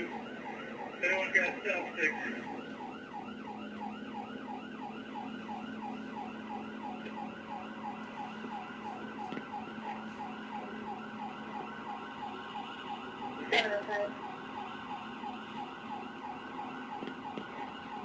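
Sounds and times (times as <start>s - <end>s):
low hum of running vehicle: 0.0s - 18.0s
police siren yelping: 0.0s - 18.0s.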